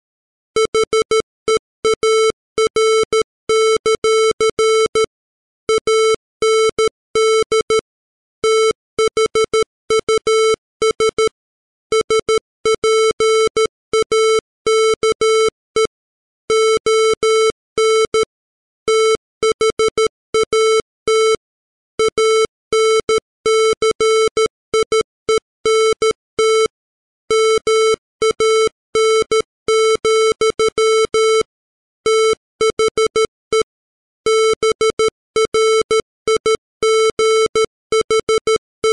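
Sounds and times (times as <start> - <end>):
morse code beeps: 0.6 - 5.1, 5.7 - 7.8, 8.4 - 11.3, 11.9 - 15.9, 16.5 - 18.3, 18.9 - 21.4, 22.0 - 26.7, 27.3 - 38.9.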